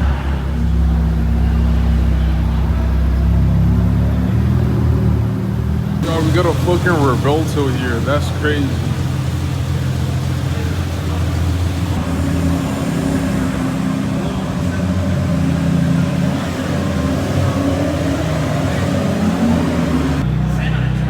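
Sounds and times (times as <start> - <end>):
car engine at low revs: 0.0 - 20.3.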